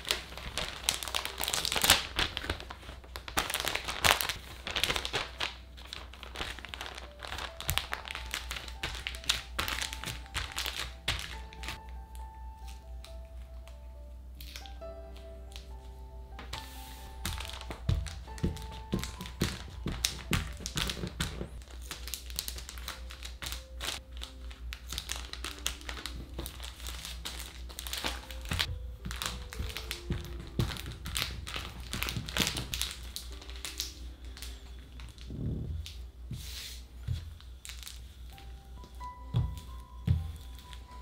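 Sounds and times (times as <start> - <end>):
plastic film crinkling: 0.0 - 13.8, 14.4 - 41.0.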